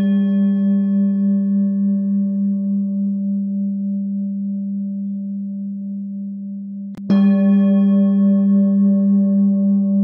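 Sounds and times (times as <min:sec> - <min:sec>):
singing bowl ringing: 0:00.0 - 0:10.0.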